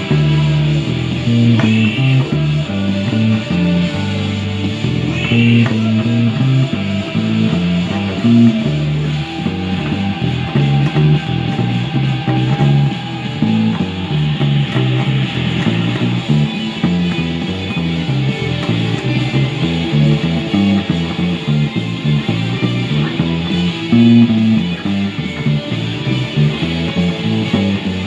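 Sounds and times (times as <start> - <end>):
electric guitar low notes: 0.0 - 28.0.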